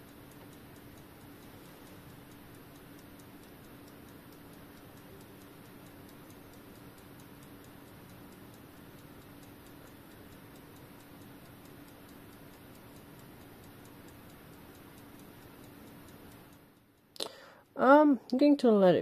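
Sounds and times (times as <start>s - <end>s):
clock ticking faintly: 0.0s - 18.9s.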